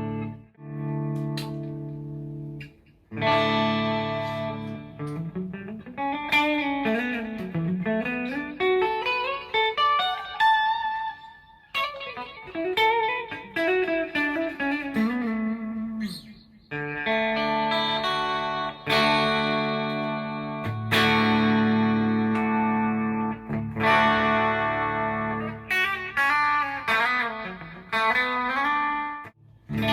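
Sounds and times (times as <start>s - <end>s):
electric guitar through amp: 0.0s - 29.9s.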